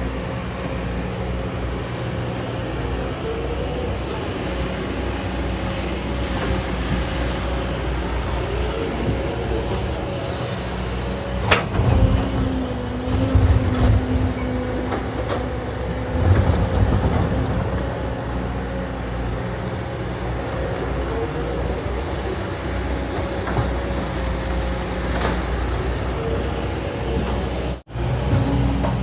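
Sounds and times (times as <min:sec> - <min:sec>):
excavator engine drone: 0:00.0 - 0:29.0.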